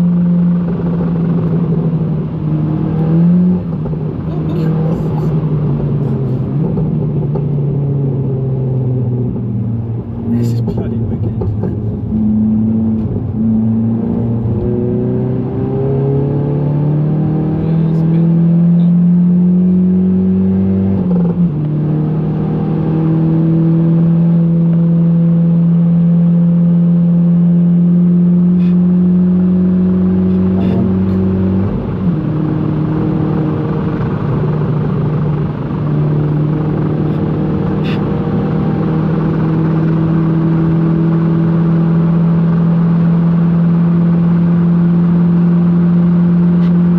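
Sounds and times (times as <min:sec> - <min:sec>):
car engine accelerating: 0:00.0 - 0:46.9.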